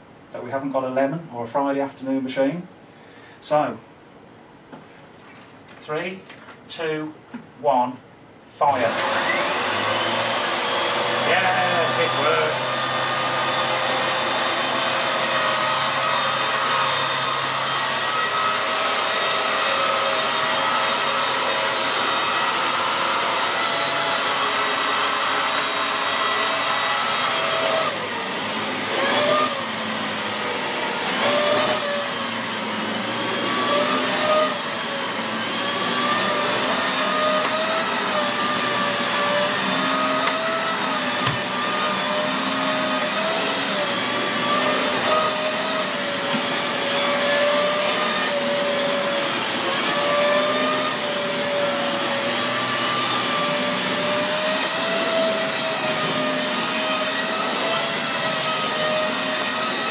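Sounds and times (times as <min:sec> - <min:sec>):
vacuum cleaner motor whine: 0:08.6 - 0:59.9.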